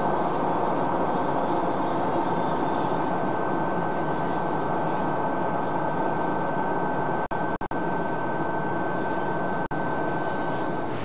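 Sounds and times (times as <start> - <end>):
airliner cabin drone: 0.0 - 11.0
thin high whine: 0.0 - 11.0.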